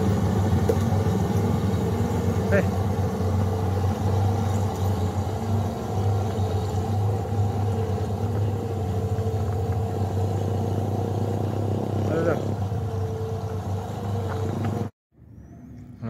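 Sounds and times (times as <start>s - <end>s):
truck diesel engine rumbling: 0.0s - 16.0s.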